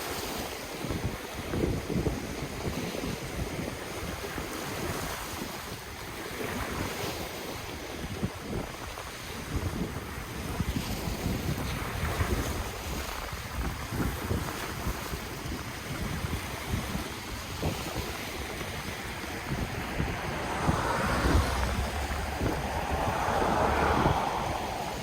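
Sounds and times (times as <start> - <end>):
ocean waves washing on shore: 0.0 - 25.0
wind buffeting microphone: 0.0 - 25.0.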